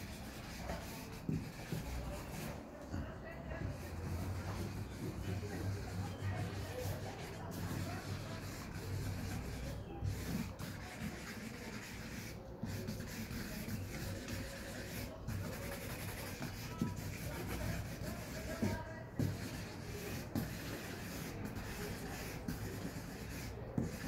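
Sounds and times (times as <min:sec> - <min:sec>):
marker scratching on paper: 0:00.0 - 0:24.0.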